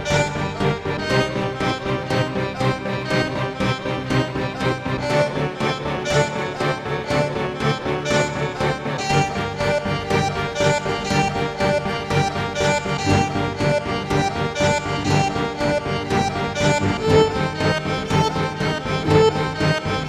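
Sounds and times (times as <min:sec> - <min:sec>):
instrumental background music: 0:00.0 - 0:20.0.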